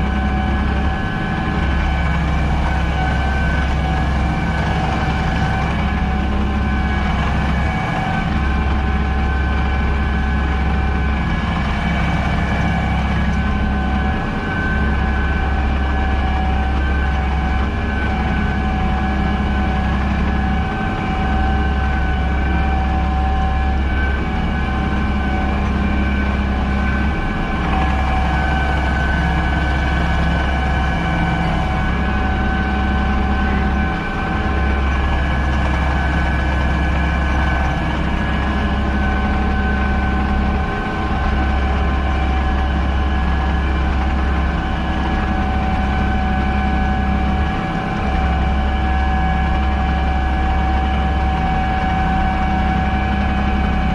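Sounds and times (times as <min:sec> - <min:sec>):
high whine: 0:00.0 - 0:53.9
tractor engine drone: 0:00.0 - 0:53.9.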